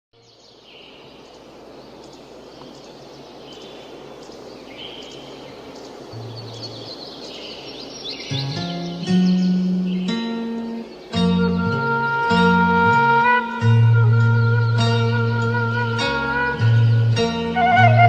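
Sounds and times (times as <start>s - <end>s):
birds chirping: 0.2s - 18.0s
steady background hiss: 0.2s - 18.0s.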